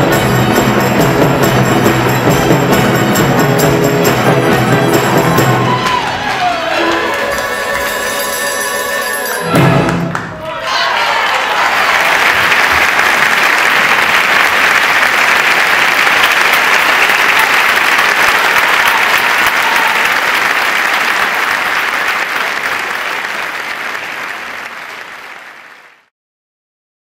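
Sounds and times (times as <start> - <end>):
audience applauding: 0.0 - 8.6, 9.6 - 26.1.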